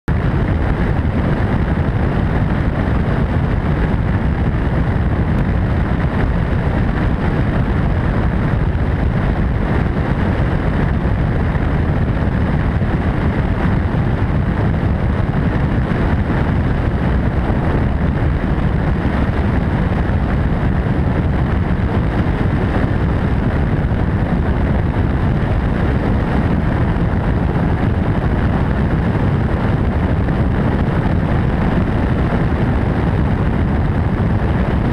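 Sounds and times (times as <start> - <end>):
wind on microphone: 0.0 - 34.9
helicopter engine and rotor noise: 0.1 - 34.9.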